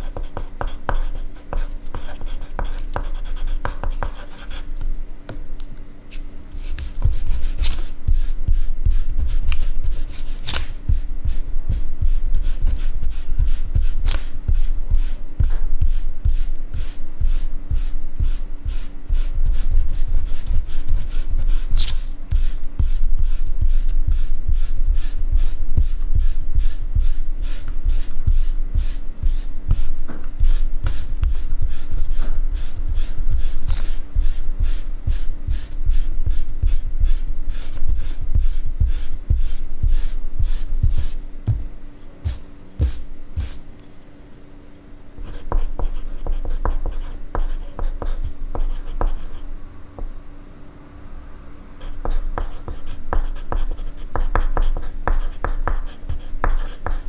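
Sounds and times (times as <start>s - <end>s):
pencil scratching on paper: 0.0s - 4.7s, 6.6s - 41.2s, 45.2s - 49.4s, 51.8s - 57.0s
faint steady hum: 0.0s - 57.0s.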